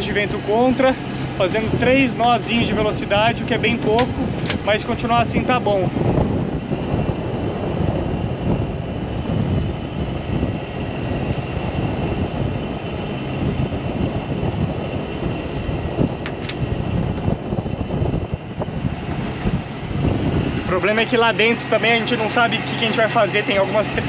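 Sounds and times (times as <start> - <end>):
diesel engine running hard: 0.0 - 24.0
wind buffeting microphone: 0.0 - 24.0.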